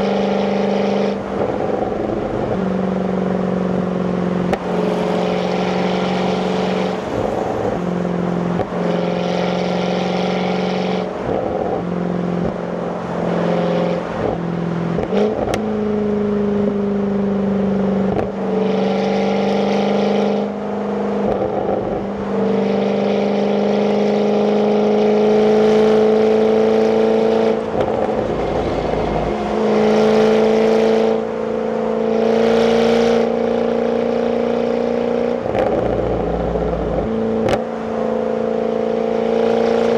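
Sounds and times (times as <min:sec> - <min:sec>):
car engine under light throttle: 0:00.0 - 0:18.7, 0:19.3 - 0:39.9.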